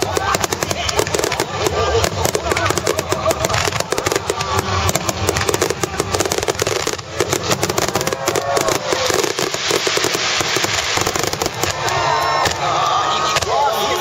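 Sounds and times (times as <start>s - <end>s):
firework shells bursting: 0.0s - 13.5s.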